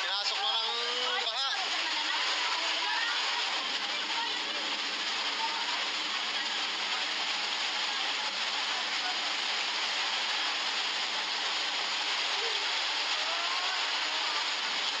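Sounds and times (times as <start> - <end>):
heavy rain pouring: 0.0 - 15.0
muddy floodwater rushing: 0.0 - 15.0.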